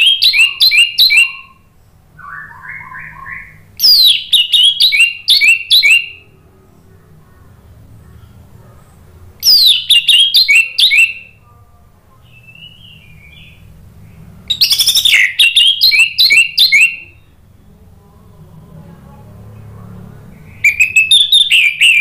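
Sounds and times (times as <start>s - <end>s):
thrush singing: 0.0s - 22.0s.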